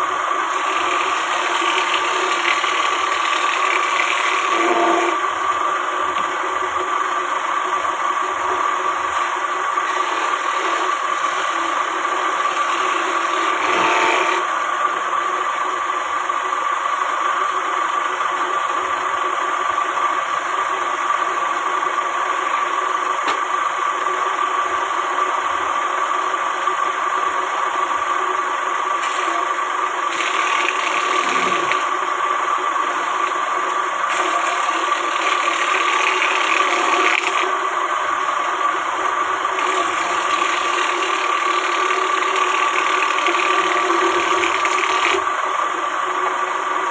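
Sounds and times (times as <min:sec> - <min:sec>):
woodworking machine whining: 0:00.0 - 0:46.9.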